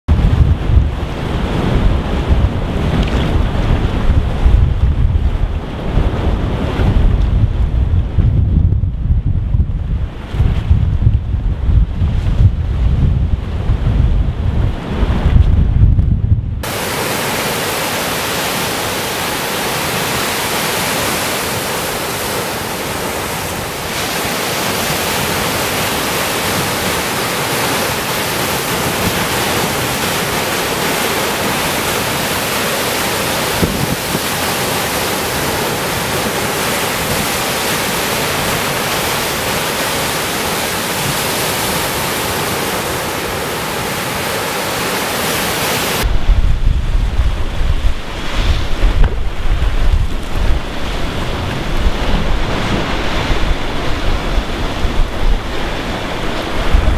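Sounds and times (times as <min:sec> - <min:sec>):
surf washing over rocks: 0:00.1 - 0:15.8, 0:16.6 - 0:56.9.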